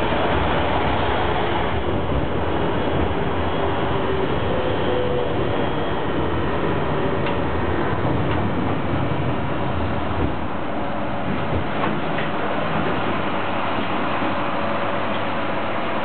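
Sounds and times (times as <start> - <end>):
tram wheels rumbling: 0.0 - 16.0.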